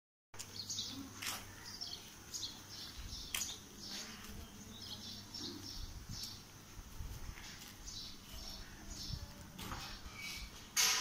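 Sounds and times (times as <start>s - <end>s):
small birds chirping: 0.4s - 10.8s.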